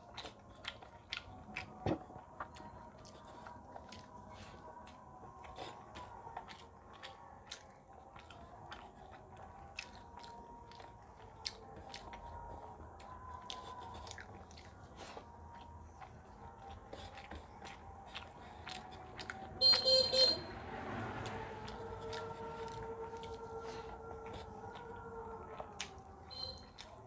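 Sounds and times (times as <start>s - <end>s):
chewing and crunching: 0.0s - 27.0s.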